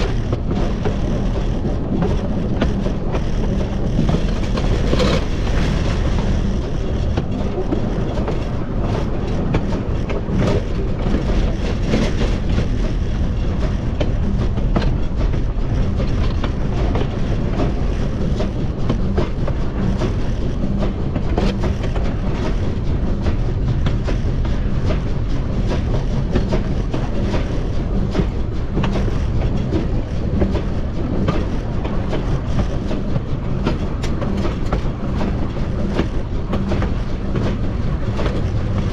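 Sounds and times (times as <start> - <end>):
track clicks and clatter: 0.0 - 38.9
wheels rumbling on rail: 0.0 - 38.9.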